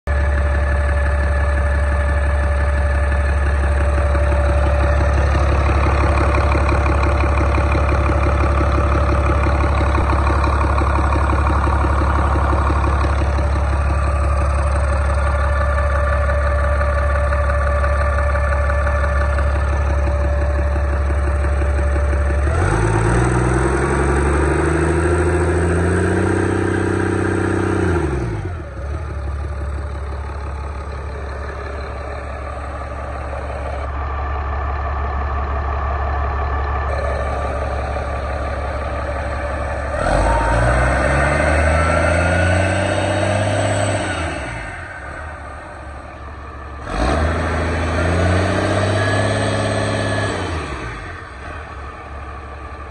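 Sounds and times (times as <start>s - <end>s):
diesel engine idling and revving: 0.0s - 52.9s.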